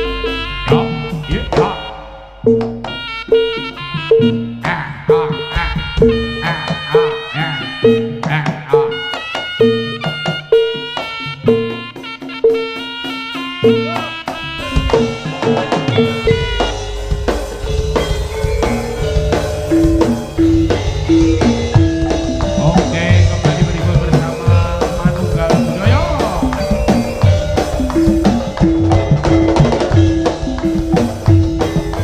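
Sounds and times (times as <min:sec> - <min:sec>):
drums and percussion: 0:00.0 - 0:32.0
short repeated pitched notes: 0:00.0 - 0:32.0.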